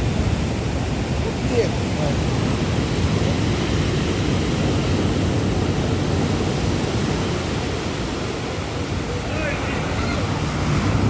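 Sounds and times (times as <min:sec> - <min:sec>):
sea surf rushing: 0:00.0 - 0:11.0
wind buffeting microphone: 0:00.0 - 0:11.0.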